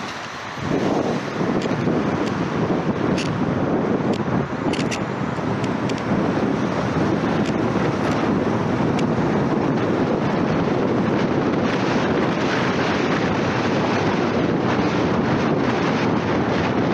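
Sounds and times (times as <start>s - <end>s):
tyre and road noise: 0.0s - 16.9s
wind rushing over microphone: 0.0s - 16.9s.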